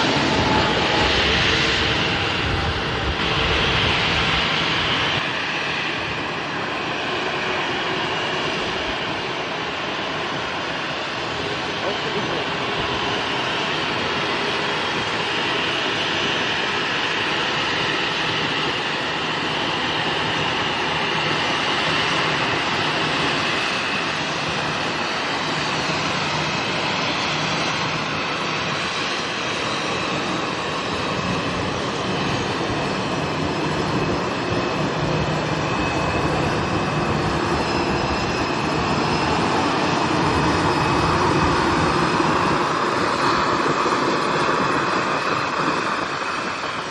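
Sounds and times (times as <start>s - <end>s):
airliner engines running: 0.0s - 46.9s.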